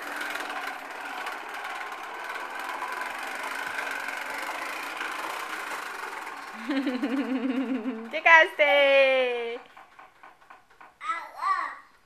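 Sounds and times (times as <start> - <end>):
toy lawn mower on carpet: 0.0 - 12.0.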